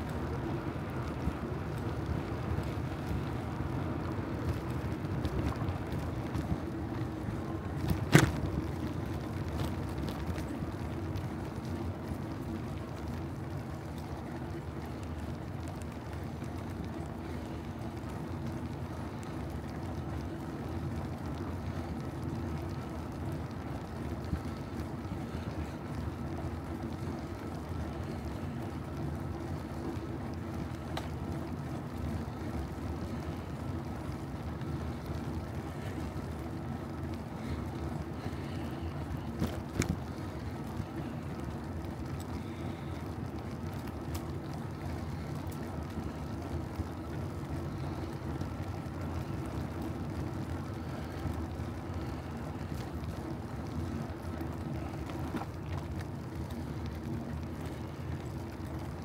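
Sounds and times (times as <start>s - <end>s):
wind and road noise from bicycle: 0.0s - 59.0s.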